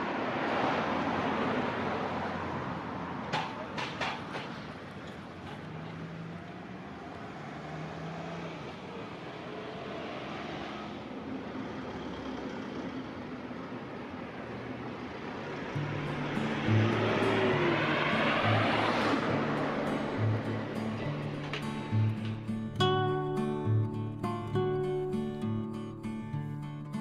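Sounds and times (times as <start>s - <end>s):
vehicle passing: 0.0s - 26.2s
traffic noise: 0.0s - 27.0s.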